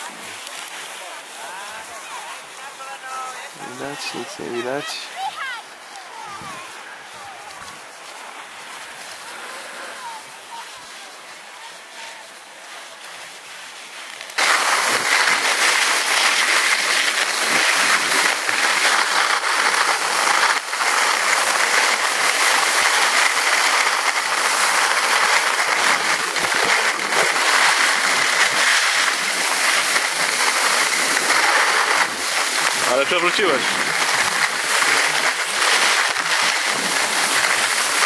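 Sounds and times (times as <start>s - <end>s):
skis scraping on icy snow: 0.0s - 38.0s.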